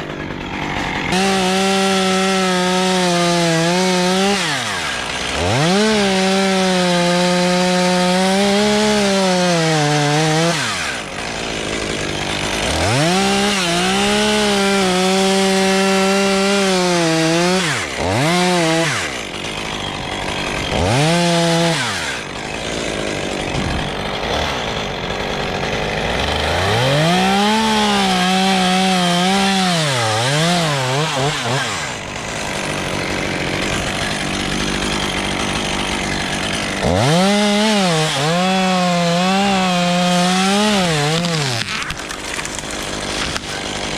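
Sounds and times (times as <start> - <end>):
chainsaw cutting and idling: 0.0 - 43.9.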